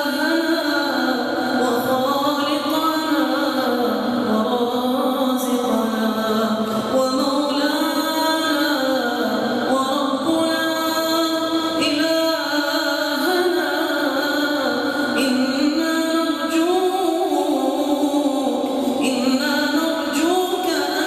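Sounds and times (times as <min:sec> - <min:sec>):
person chanting melodically: 0:00.0 - 0:21.0.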